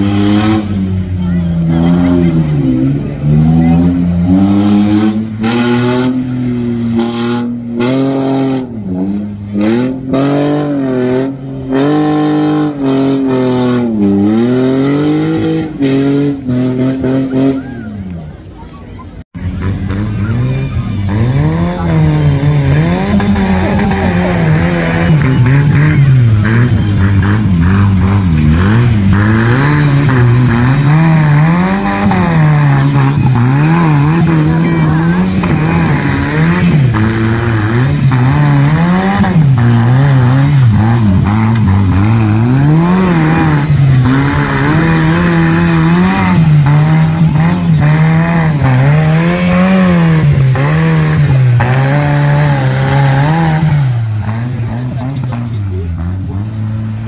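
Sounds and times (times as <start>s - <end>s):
tractor engine revving: 0.0s - 18.6s, 19.2s - 57.0s.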